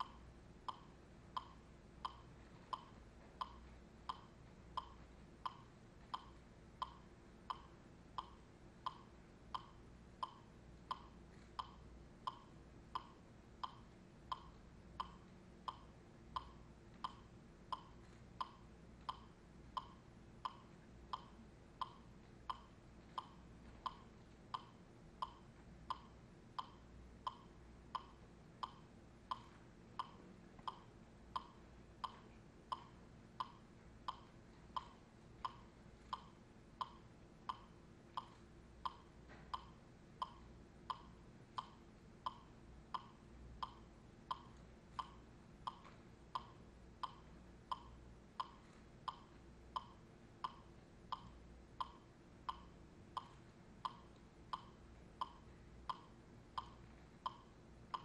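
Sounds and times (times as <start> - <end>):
faint room hum: 0.0 - 58.0
metronome clicks: 0.0 - 58.0.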